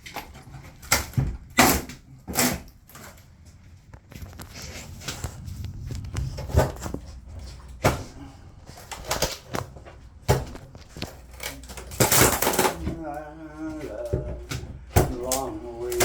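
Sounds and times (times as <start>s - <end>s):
low steady rumble: 2.2s - 16.0s.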